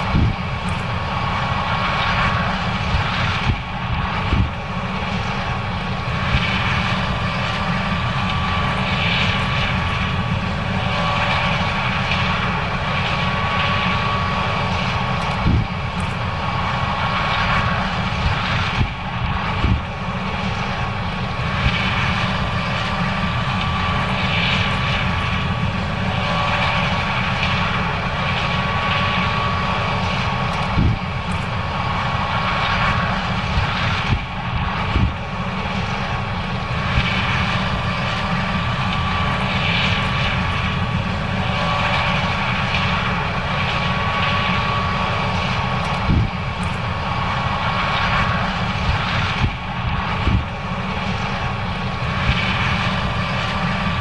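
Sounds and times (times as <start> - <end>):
combine harvester rumble: 0.0 - 54.0
thin machinery whine: 0.0 - 54.0.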